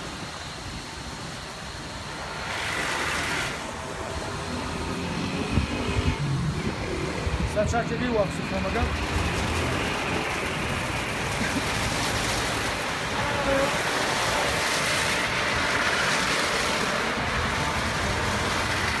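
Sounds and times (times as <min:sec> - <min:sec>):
water spray rushing: 0:00.0 - 0:19.0.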